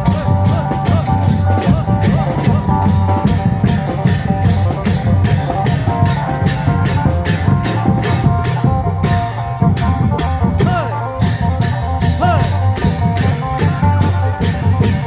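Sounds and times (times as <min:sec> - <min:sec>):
plucked melody: 0:00.0 - 0:15.0
sharp percussion strikes: 0:00.0 - 0:15.0.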